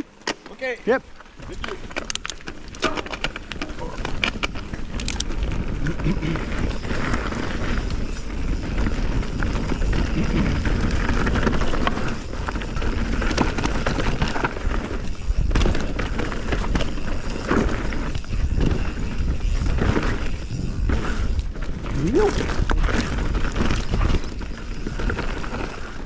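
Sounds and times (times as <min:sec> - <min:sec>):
bike rattling clicks and knocks: 0:00.1 - 0:26.0
bike tyres rolling over dirt: 0:00.1 - 0:26.0
wind rumble on microphone: 0:03.8 - 0:26.0.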